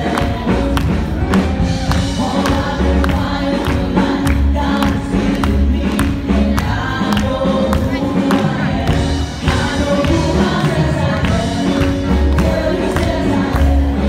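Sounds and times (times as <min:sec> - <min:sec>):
choir singing over a beat: 0:00.0 - 0:14.0
congregation clapping: 0:00.0 - 0:14.0.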